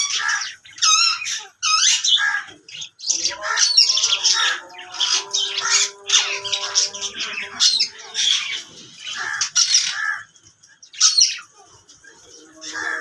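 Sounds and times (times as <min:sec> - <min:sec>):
parakeets screeching calls: 0:00.0 - 0:10.3, 0:10.9 - 0:13.0.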